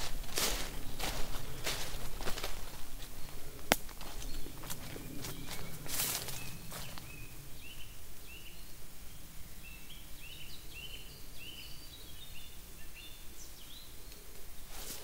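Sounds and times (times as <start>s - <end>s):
birds chirping: 0.0s - 15.0s
faint low wind rumble: 0.0s - 15.0s.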